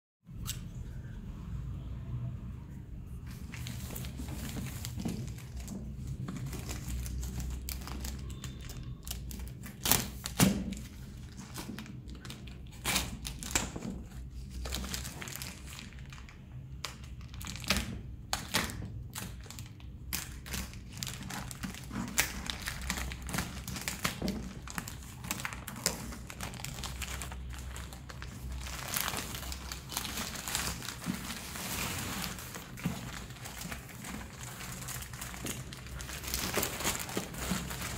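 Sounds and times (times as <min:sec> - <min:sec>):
plastic bag crinkling and tearing: 0:03.3 - 0:37.9.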